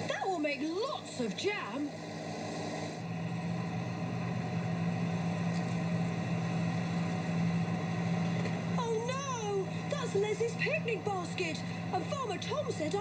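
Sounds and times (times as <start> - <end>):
harvester engine humming: 0.0 - 13.0.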